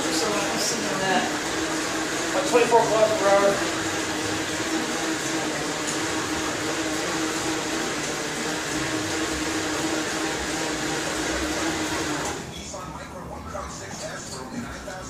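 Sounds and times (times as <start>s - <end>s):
bike tyres whirring on rollers: 0.0s - 12.5s.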